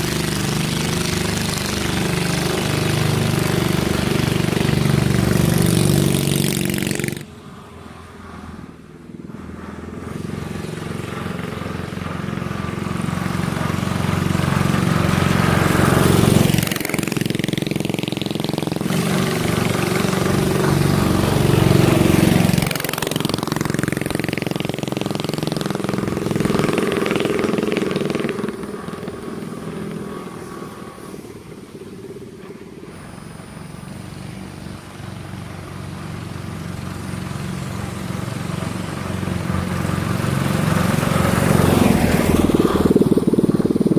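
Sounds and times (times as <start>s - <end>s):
small gasoline engine running: 0.0s - 8.3s, 9.0s - 43.9s.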